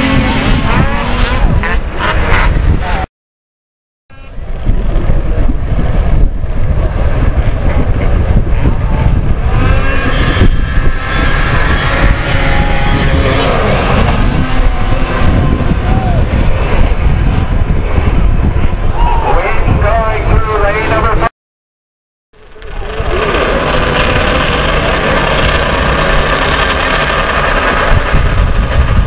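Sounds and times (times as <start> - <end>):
snowmobile engines rumbling: 0.0 - 3.1, 4.1 - 21.3, 22.4 - 29.0.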